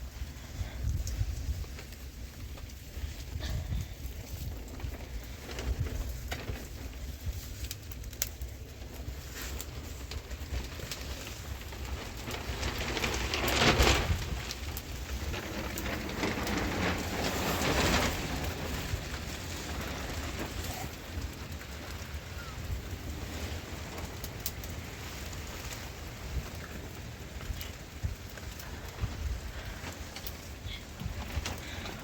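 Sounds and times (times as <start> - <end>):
rain falling: 0.0 - 32.0
raindrops ticking: 0.0 - 32.0.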